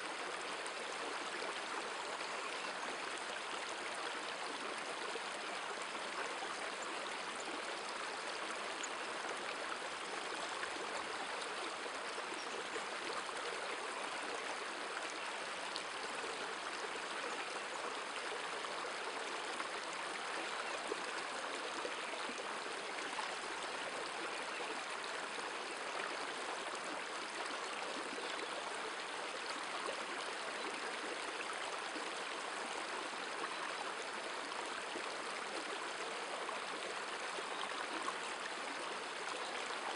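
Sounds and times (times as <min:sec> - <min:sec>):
river water over stones: 0:00.0 - 0:39.9.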